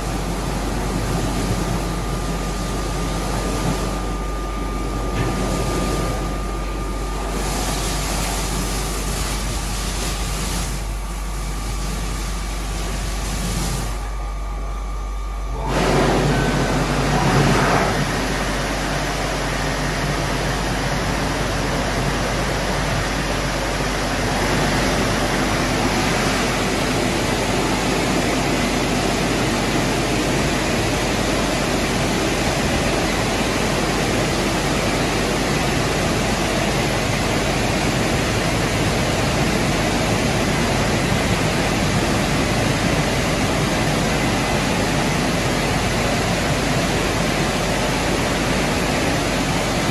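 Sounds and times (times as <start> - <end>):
car wash water spray and brushes: 0.0 - 14.4, 15.6 - 49.9.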